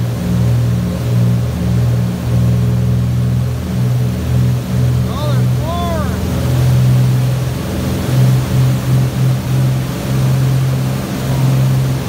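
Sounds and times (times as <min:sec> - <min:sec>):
churning boat wake rushing: 0:00.0 - 0:12.0
marine diesel engines droning: 0:00.0 - 0:12.0.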